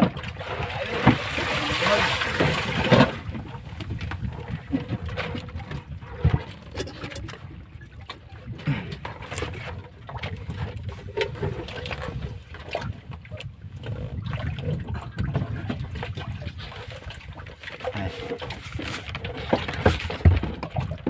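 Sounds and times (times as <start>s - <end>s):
water splashing against boat hull: 0.0s - 21.0s.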